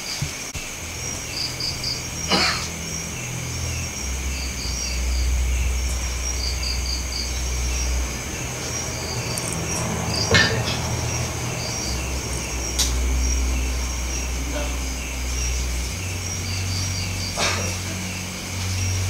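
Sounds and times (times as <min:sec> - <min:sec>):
crickets chirping: 0:00.0 - 0:19.0
steady high insect drone: 0:00.0 - 0:19.0
low rumble: 0:00.6 - 0:19.0.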